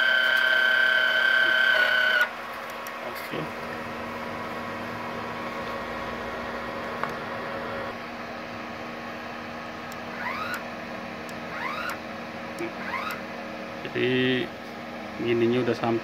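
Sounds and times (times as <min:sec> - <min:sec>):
welding machine humming: 0:00.0 - 0:16.0
wire-feed motor running: 0:00.0 - 0:16.0.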